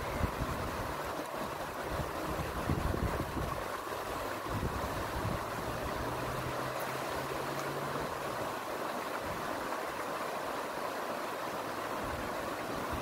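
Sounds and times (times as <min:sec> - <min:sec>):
water running over rocks: 0:00.0 - 0:13.0.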